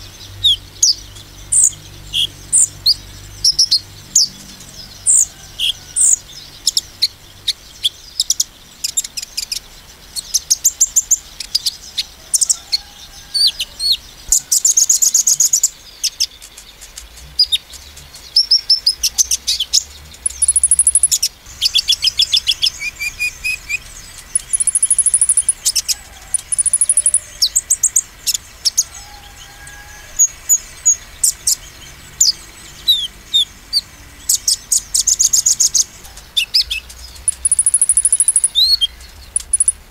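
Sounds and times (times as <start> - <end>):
bird twittering trills and chirps: 0.0 - 39.9.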